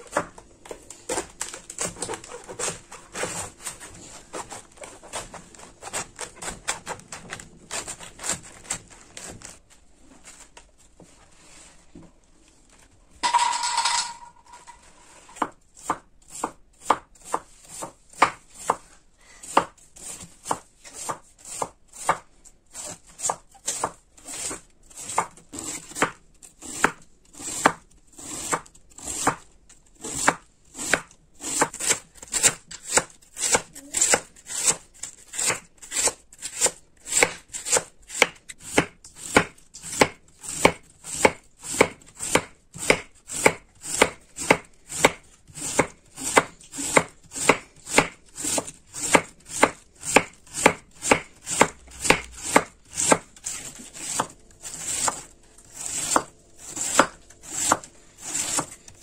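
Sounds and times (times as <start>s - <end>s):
knife shredding cabbage: 0.0s - 9.6s, 14.9s - 59.0s.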